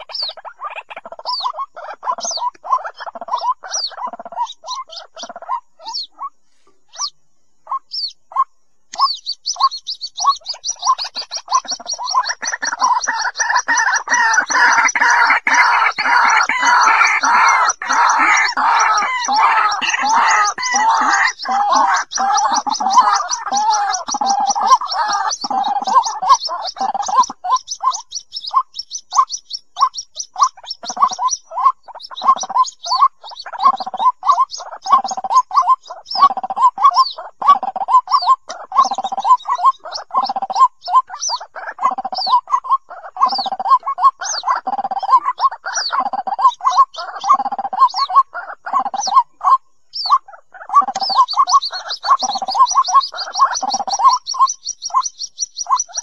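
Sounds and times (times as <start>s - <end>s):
waterhen croaking calls: 0.0s - 56.0s.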